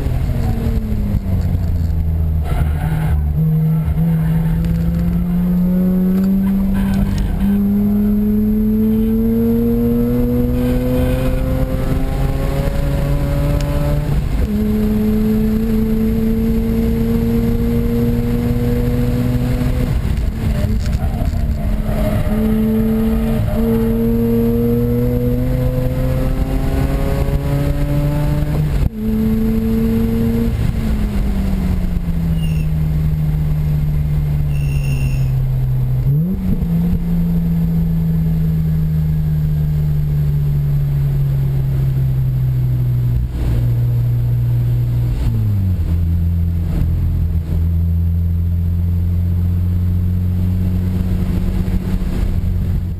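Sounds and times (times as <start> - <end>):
rotary engine accelerating: 0.0 - 34.4, 35.6 - 52.9.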